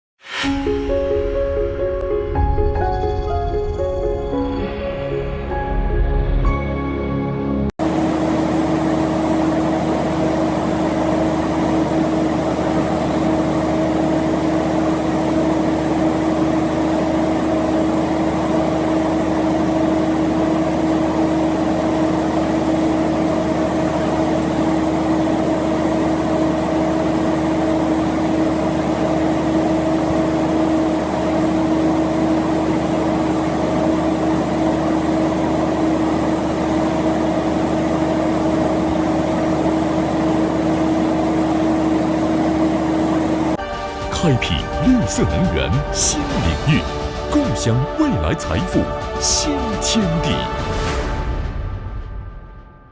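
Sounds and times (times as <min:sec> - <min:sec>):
gas engine running steadily: 0:07.8 - 0:50.5.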